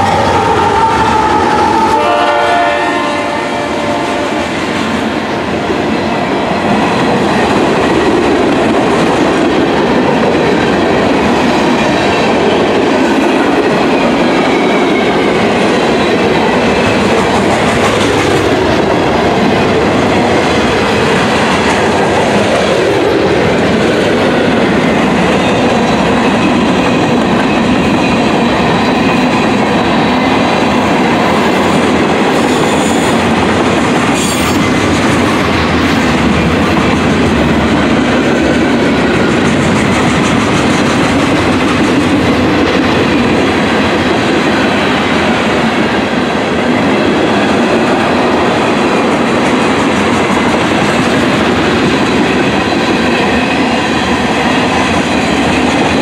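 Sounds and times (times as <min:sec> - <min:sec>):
freight train rolling rumble: 0:00.0 - 0:56.0.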